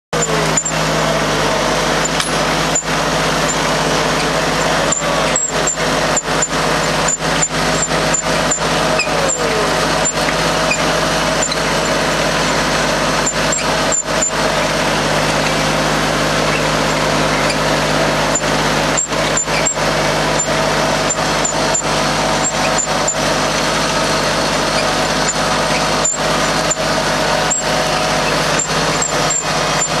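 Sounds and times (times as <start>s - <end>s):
tractor engine drone: 0.1s - 30.0s.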